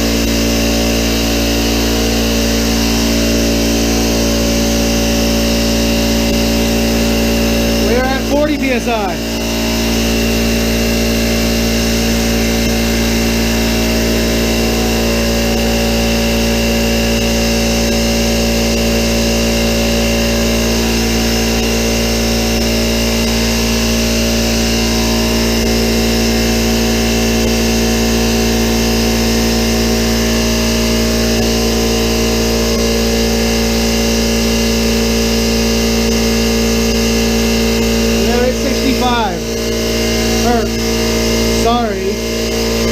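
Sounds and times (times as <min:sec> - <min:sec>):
air compressor running: 0:00.0 - 0:42.9.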